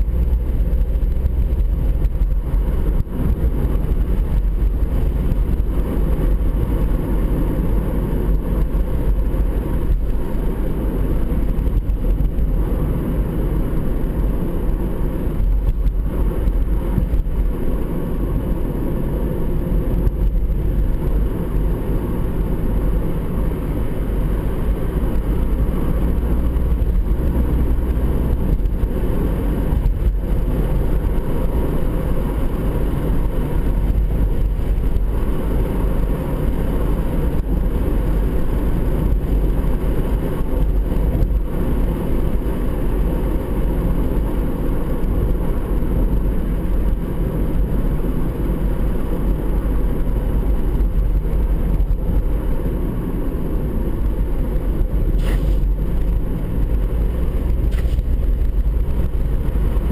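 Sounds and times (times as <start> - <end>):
car cabin road and engine noise: 0.0 - 59.9.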